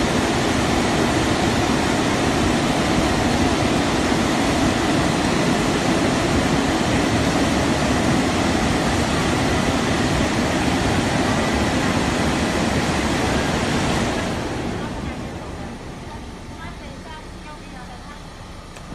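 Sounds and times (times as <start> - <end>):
car wash machine rushing: 0.0 - 18.9.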